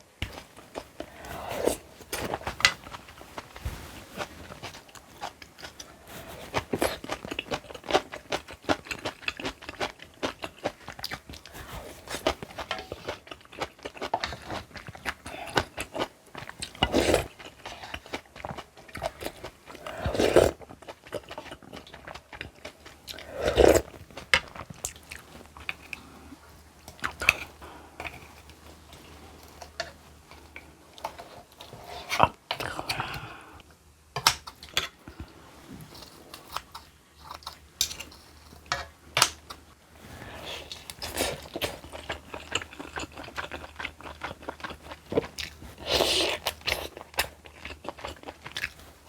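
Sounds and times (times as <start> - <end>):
chewing and crunching food: 0.2 - 49.0.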